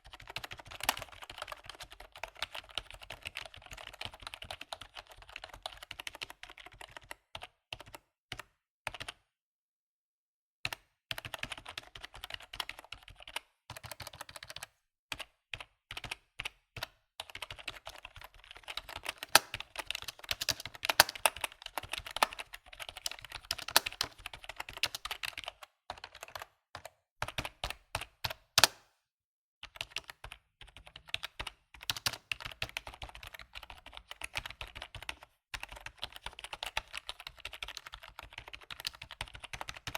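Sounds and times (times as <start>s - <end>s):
computer keyboard typing: 0.0s - 9.2s, 10.7s - 28.8s, 29.6s - 39.9s.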